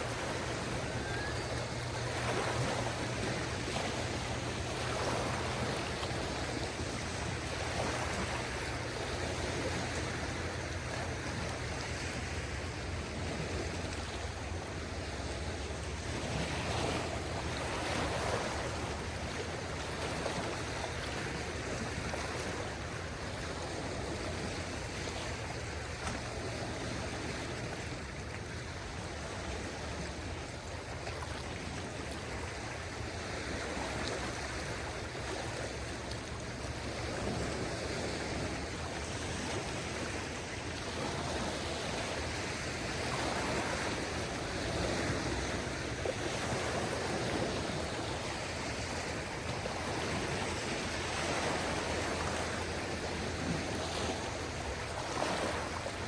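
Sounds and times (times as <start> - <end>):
light breeze: 0.0 - 56.0
small waves lapping ashore: 0.0 - 56.0.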